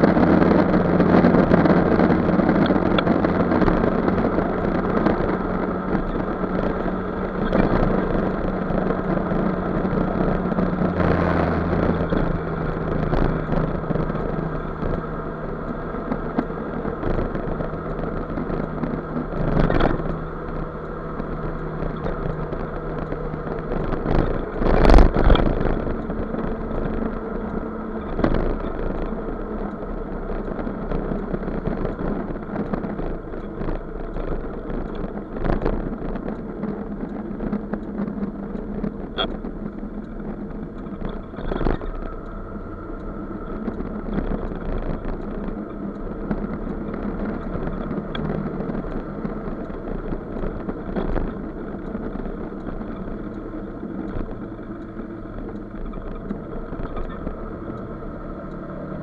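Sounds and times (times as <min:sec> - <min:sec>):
road and wind noise: 0:00.0 - 0:59.0
scooter engine running: 0:00.0 - 0:59.0.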